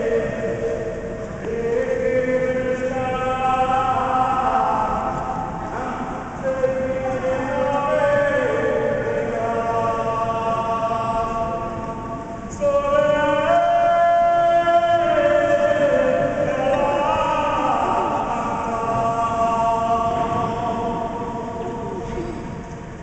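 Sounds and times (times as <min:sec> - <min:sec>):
group singing devotional song: 0:00.0 - 0:22.2.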